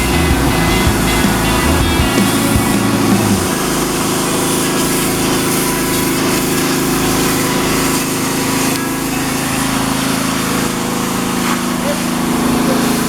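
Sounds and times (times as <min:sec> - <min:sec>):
pressure washer motor hum: 0:00.0 - 0:13.0
spray hissing: 0:00.0 - 0:13.0.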